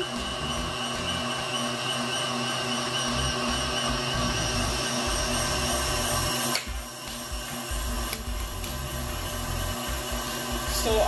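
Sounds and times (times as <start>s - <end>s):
stand mixer motor running: 0.0s - 11.0s.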